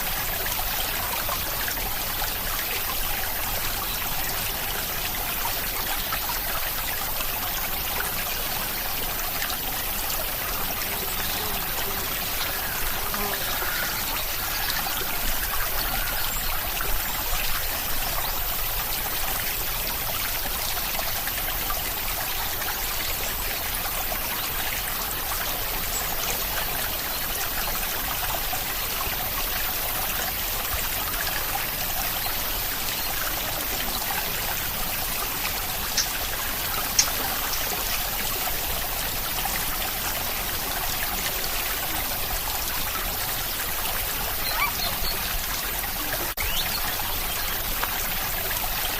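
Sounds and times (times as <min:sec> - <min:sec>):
steady rain hiss: 0:00.0 - 0:48.9
water trickling: 0:00.0 - 0:48.9.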